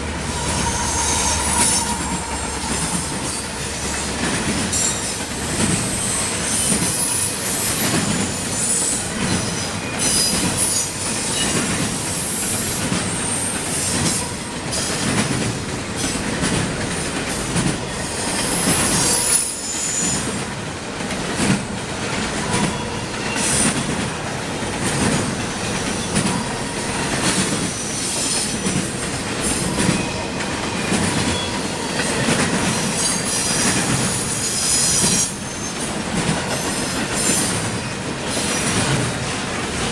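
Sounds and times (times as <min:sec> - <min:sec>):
clickety-clack of wheels on track: 0:00.0 - 0:39.9
train wheels squealing on rails: 0:00.0 - 0:39.9.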